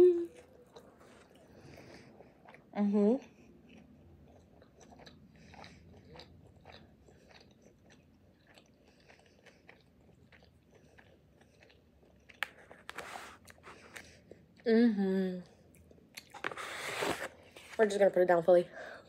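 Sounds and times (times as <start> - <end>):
person chewing food: 0.2 - 14.7, 15.4 - 17.8.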